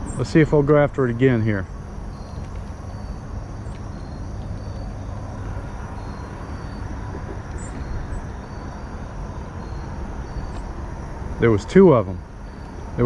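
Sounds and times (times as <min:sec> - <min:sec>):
insects chirping: 0:00.0 - 0:13.0
steady low rumble: 0:00.0 - 0:13.0.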